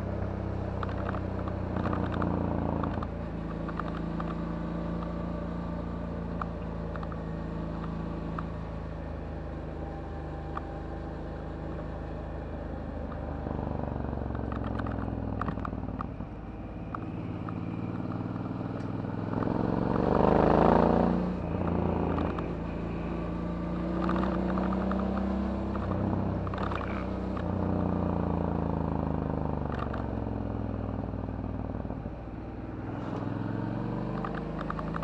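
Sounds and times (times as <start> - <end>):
motorcycle engine revving: 0.0 - 16.2, 16.9 - 35.0.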